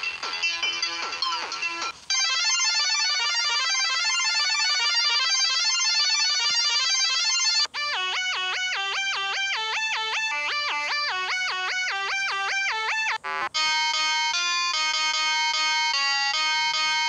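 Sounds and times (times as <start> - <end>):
electronic music: 0.0 - 17.0.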